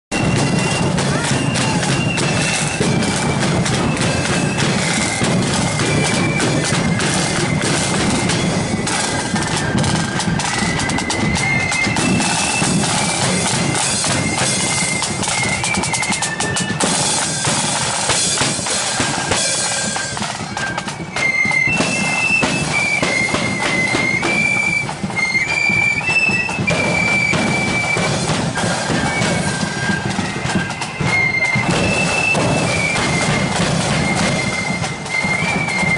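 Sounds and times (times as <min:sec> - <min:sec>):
flute melody: 0:00.1 - 0:35.9
snare drums: 0:00.1 - 0:35.9.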